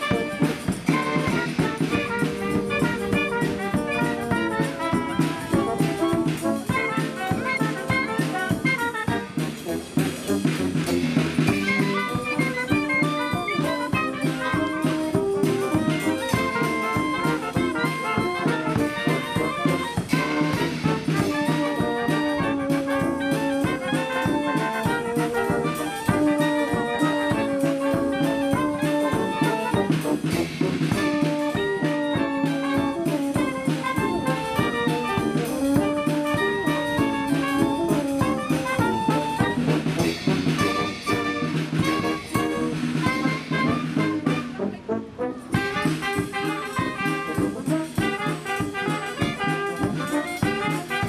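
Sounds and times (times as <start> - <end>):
brass band music with drums: 0.0 - 51.0.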